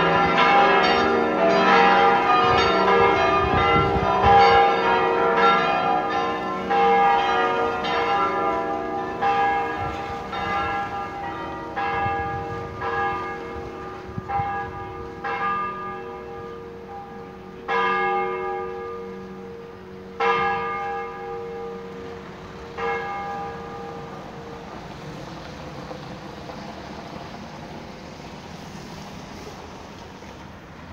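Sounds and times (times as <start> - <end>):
church bells ringing: 0.0 - 26.3.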